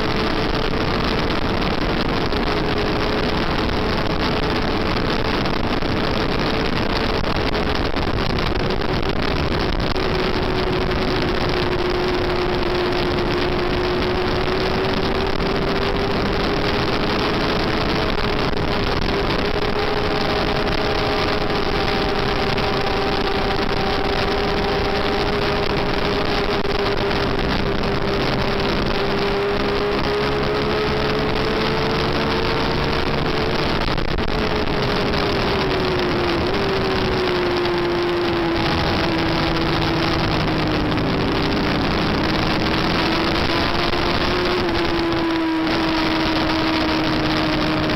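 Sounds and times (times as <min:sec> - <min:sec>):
motorcycle engine at high revs: 0:00.0 - 0:47.9
wind rush on microphone: 0:00.0 - 0:47.9.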